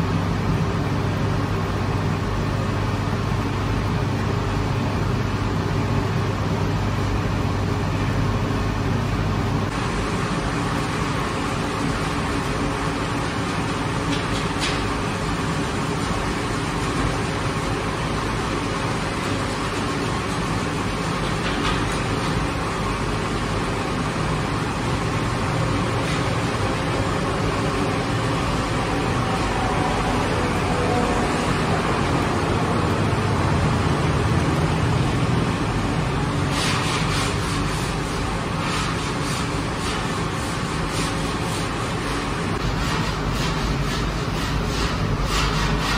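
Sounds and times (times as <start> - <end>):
machinery hum and rumble: 0.0 - 45.9.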